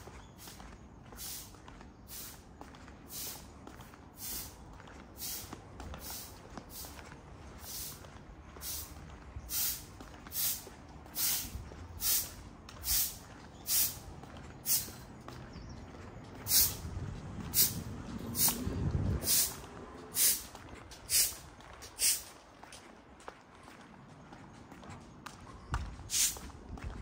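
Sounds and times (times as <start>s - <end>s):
faint low traffic rumble: 0.0s - 27.0s
footsteps scuffing: 0.0s - 27.0s.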